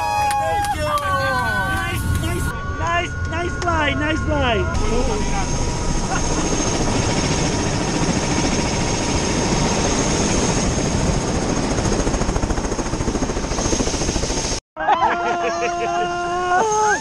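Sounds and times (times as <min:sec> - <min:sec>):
helicopter rotor noise: 0:00.0 - 0:14.6
helicopter turbine whine: 0:00.0 - 0:14.6.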